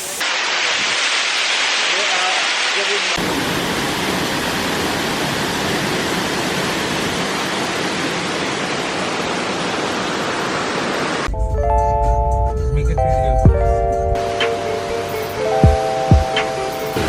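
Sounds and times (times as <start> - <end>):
waterfall rushing: 0.0 - 11.3, 13.6 - 17.0.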